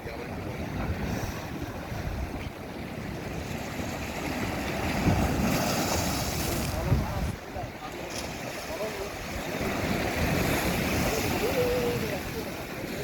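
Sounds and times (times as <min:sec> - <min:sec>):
wind rumbling on microphone: 0:00.0 - 0:13.0
water washing and splashing: 0:00.6 - 0:13.0.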